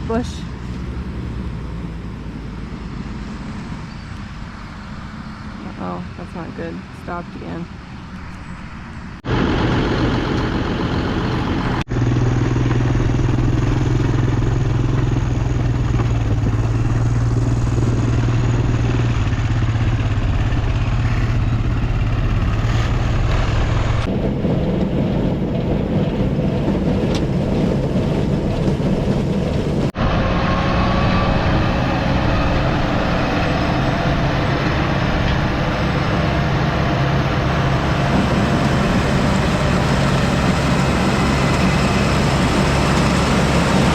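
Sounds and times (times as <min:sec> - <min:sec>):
tractor and forage harvester droning: 0:00.0 - 0:43.9.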